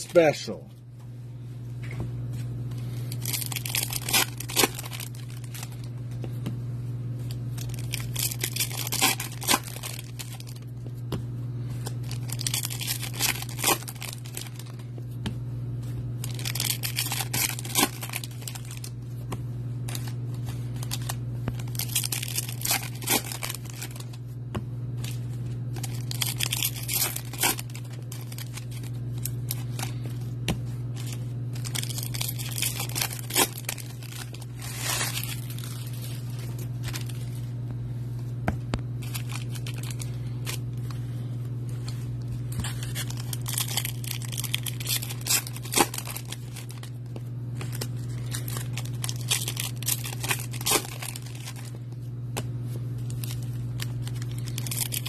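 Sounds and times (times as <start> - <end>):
cards and foil wrappers crinkling: 0.0 - 0.6, 2.8 - 6.3, 7.2 - 10.8, 11.6 - 15.0, 16.1 - 24.3, 25.0 - 37.5, 38.9 - 55.0
steady low hum: 0.0 - 55.0.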